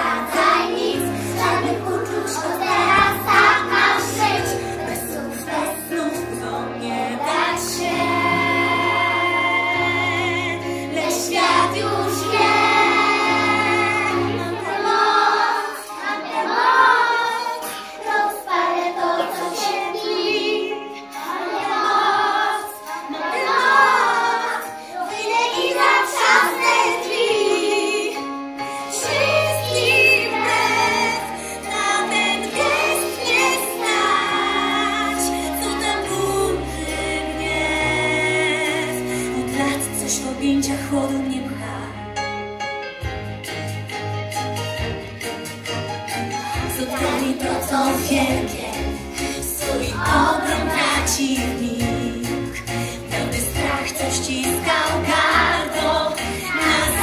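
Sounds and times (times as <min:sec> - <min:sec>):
children singing together: 0:00.0 - 0:40.3, 0:46.5 - 0:57.0.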